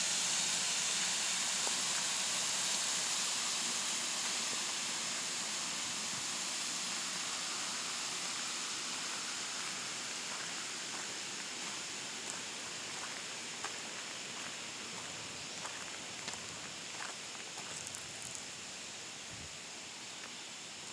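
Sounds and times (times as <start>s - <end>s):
flowing water: 0.0s - 18.5s.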